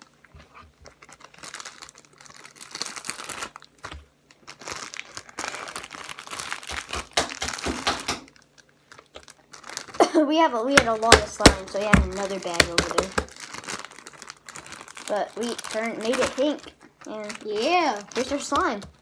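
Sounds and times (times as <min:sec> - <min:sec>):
small clicks and crackles: 0:00.0 - 0:10.0, 0:11.0 - 0:19.0
plastic bag crinkling: 0:00.0 - 0:19.0.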